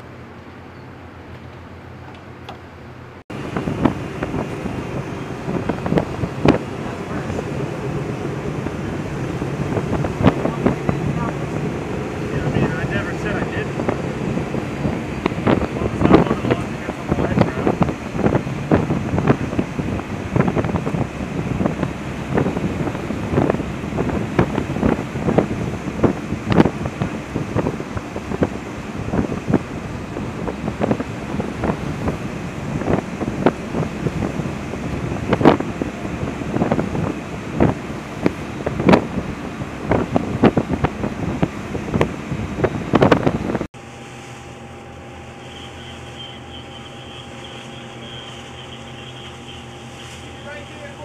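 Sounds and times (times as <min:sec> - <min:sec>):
mechanical hum with high whine: 0:00.0 - 0:51.0
sea water rushing: 0:00.0 - 0:51.0
wind buffeting microphone: 0:03.0 - 0:51.0.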